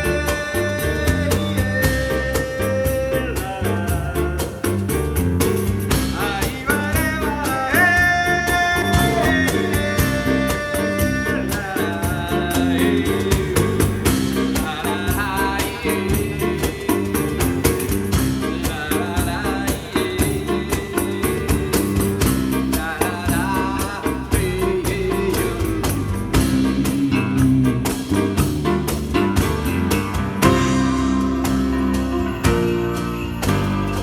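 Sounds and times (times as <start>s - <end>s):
bass line: 0.0s - 34.0s
hand percussion ticking: 0.0s - 34.0s.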